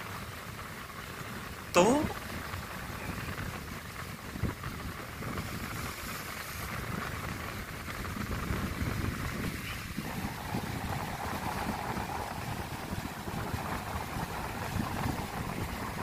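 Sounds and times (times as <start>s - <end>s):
wind buffeting microphone: 2.5s - 16.0s.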